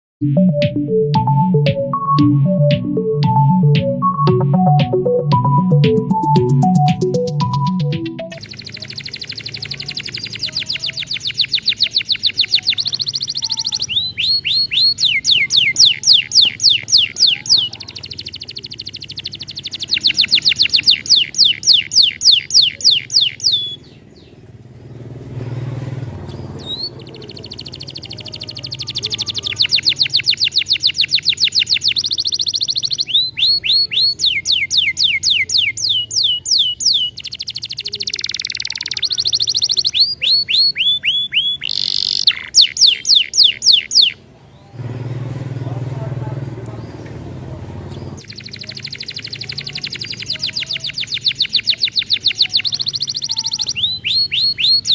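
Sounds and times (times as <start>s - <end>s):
canary singing trills: 3.4s - 25.2s, 25.9s - 45.2s, 46.7s - 54.9s.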